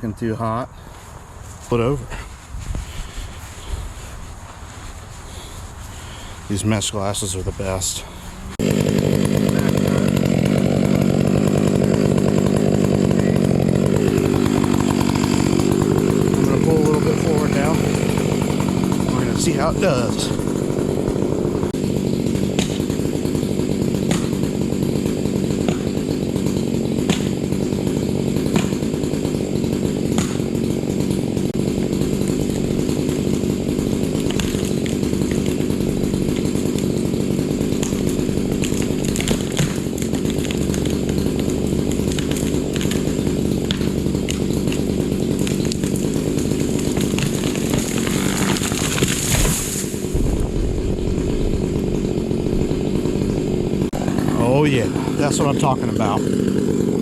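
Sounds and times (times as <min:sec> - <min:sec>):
chainsaw cutting tree trunk: 0:04.8 - 0:57.0.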